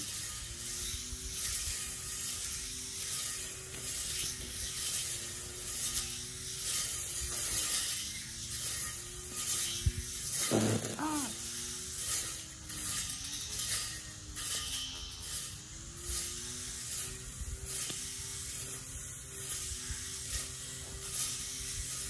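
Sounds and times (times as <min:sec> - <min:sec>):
steady hiss: 0:00.0 - 0:22.0
weed eater motor whine: 0:00.0 - 0:22.0.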